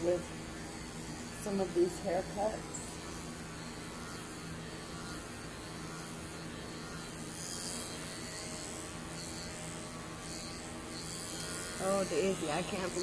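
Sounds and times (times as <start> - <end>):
electric hair clipper humming: 0.0 - 13.0.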